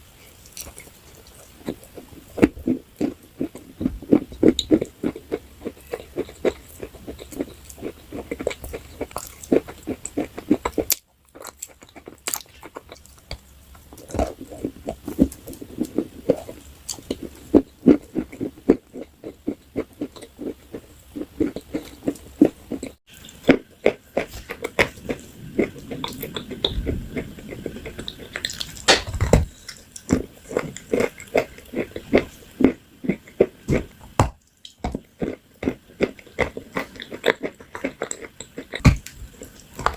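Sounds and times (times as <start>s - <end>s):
crunching and chewing brittle food: 0.2s - 39.9s.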